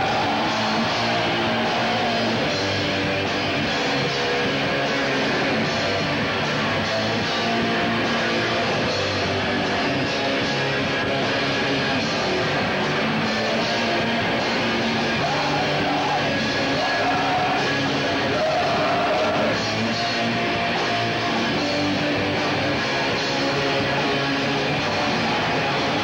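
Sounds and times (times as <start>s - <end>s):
drums: 0.0s - 26.0s
electric guitar: 0.0s - 26.0s.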